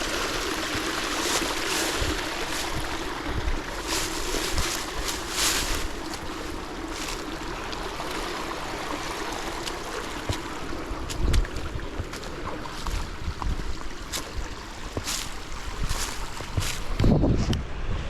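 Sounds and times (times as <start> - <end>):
footsteps through brush and leaves: 0.0 - 17.1
steady rushing noise: 0.0 - 18.0.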